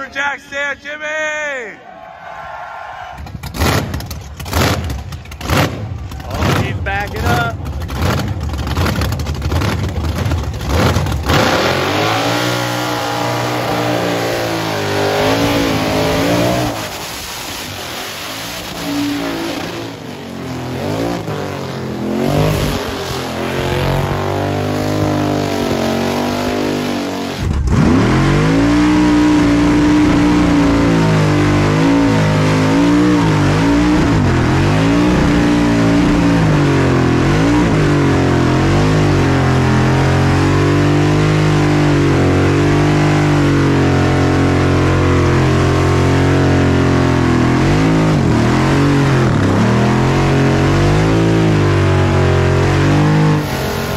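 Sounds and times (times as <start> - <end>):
car engine revving high: 3.5 - 53.9.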